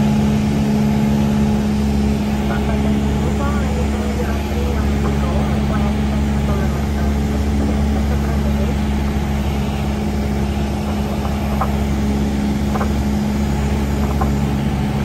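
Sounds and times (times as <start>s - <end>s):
plane engine and propeller droning: 0.0s - 15.0s.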